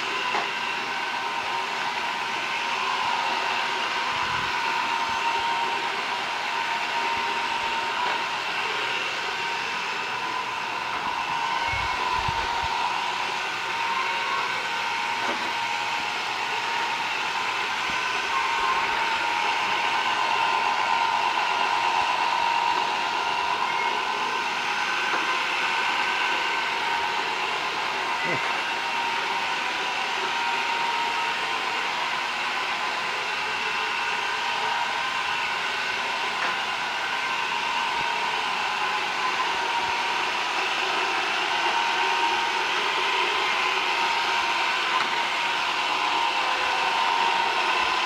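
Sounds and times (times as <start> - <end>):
robot vacuum whirring: 0.0 - 48.0.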